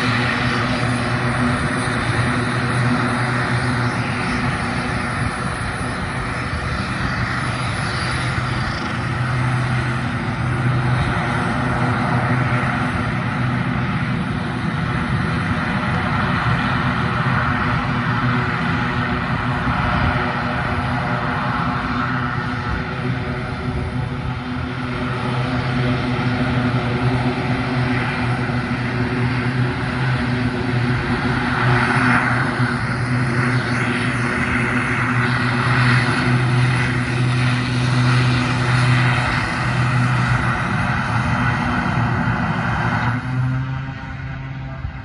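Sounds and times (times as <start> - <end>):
propeller aircraft droning: 0.0 - 45.0.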